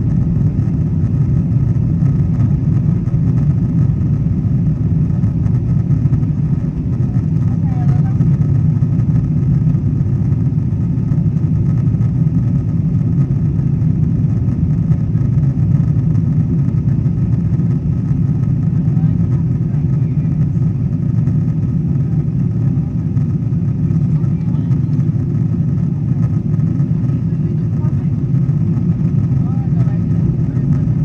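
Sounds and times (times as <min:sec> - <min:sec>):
jet engines and rushing air: 0:00.0 - 0:31.0.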